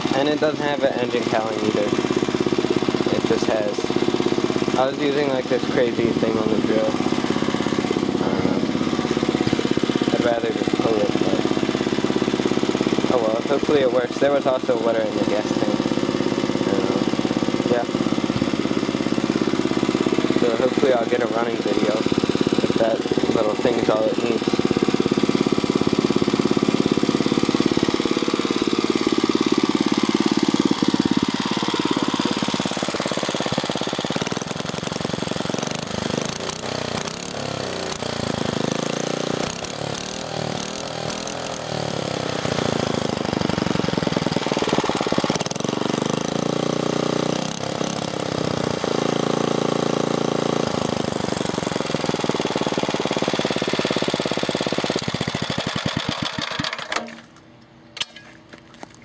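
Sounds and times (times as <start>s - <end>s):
small engine running: 0.0s - 57.5s.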